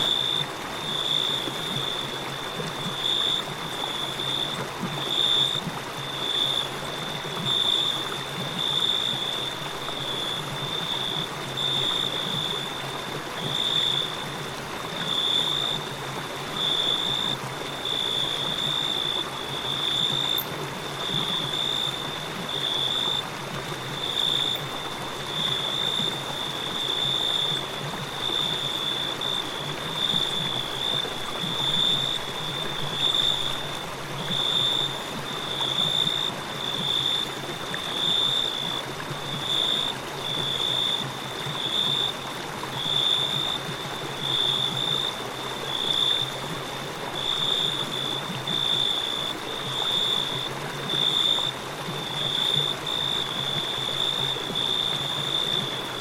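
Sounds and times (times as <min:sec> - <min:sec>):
crickets chirping: 0:00.0 - 0:56.0
river water rushing: 0:00.0 - 0:56.0.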